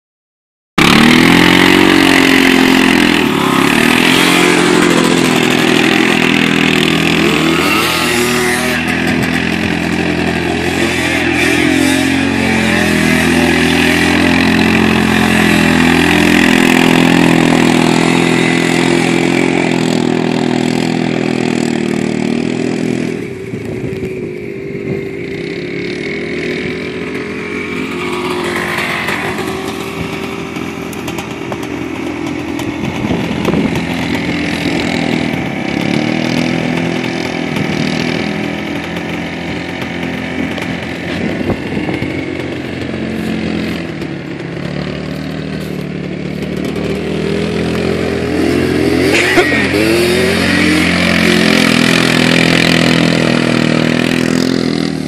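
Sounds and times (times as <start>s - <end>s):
utility vehicle engine revving: 0.8s - 55.0s.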